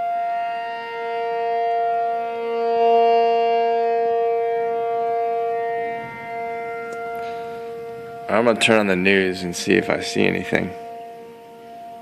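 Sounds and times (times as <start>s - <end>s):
tornado siren wailing: 0.0s - 12.0s.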